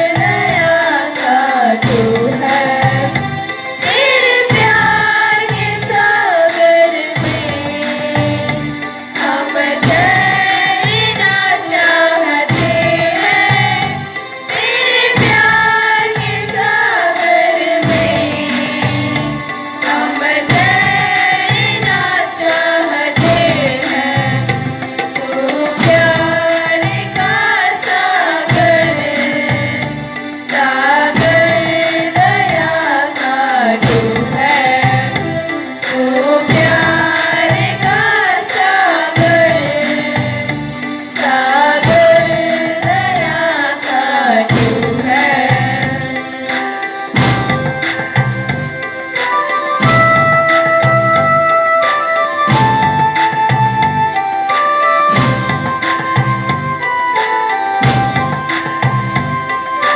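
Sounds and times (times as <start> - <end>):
instrumental backing: 0.0 - 59.9
person singing: 0.0 - 59.9
steady percussion beat: 0.0 - 59.9.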